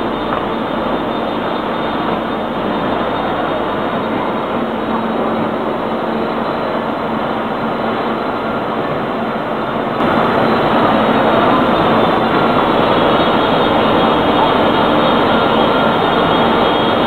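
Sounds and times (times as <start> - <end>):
industrial machine din with hum: 0.0 - 17.0.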